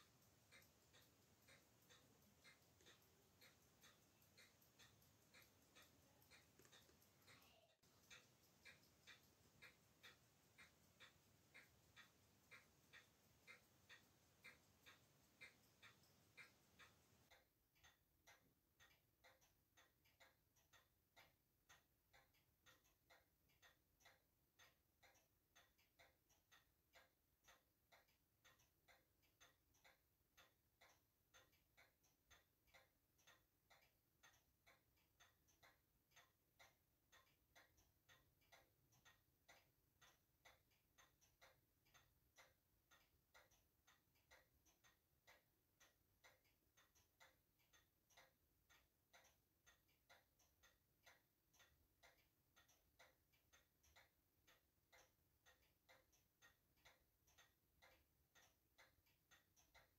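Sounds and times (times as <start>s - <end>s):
faint steady ticking: 0.0s - 59.9s.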